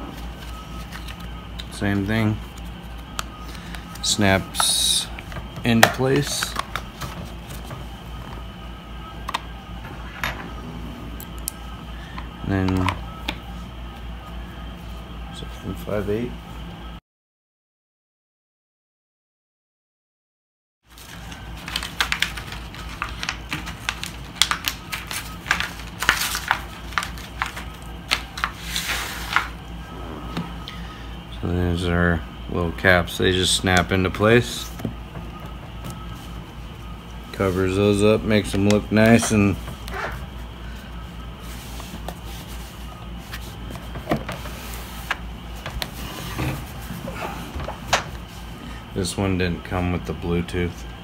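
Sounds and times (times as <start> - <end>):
low steady hum: 0.0 - 17.0, 20.9 - 51.0.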